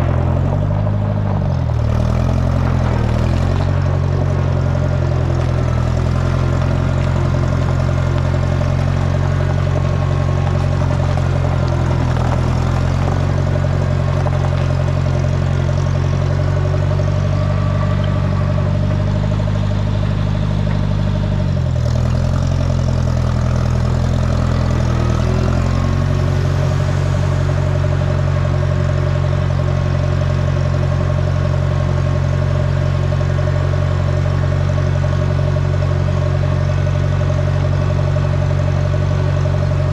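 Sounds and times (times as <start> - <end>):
grader engine running: 0.0 - 39.9.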